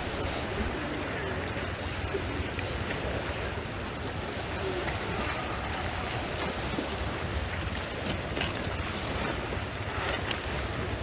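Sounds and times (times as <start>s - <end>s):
steady wind: 0.0s - 11.0s
waves washing on pebbles: 0.0s - 11.0s
wind rumbling on microphone: 0.0s - 11.0s.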